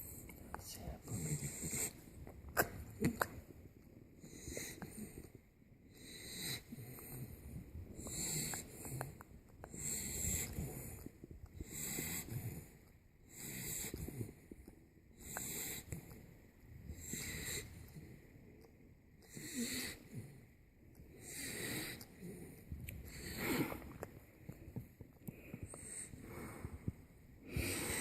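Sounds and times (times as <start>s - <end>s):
puppy snoring: 0.0s - 18.3s, 19.2s - 28.0s.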